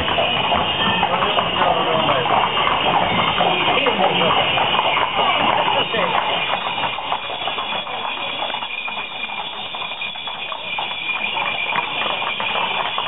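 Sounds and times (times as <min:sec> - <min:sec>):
horse hooves clopping on pavement: 0:00.0 - 0:13.0.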